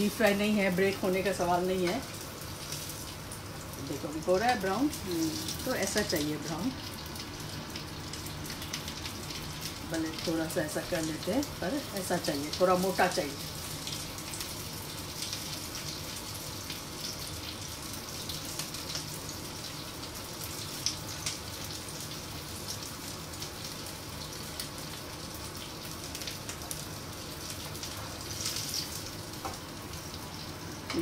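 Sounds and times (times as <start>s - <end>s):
patties sizzling in oil: 0.0s - 31.0s.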